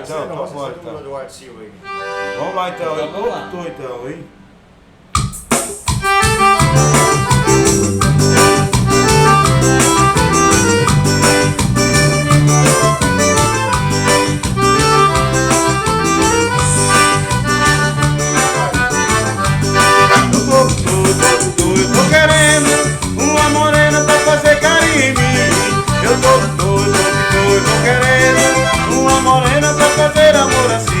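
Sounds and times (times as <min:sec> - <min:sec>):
accordion melody: 0:01.8 - 0:04.1, 0:05.9 - 0:31.0
bass line and beat: 0:05.2 - 0:31.0.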